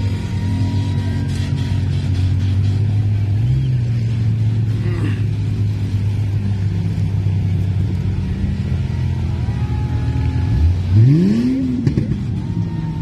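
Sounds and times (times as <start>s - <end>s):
pickup truck engine droning: 0.0s - 13.0s.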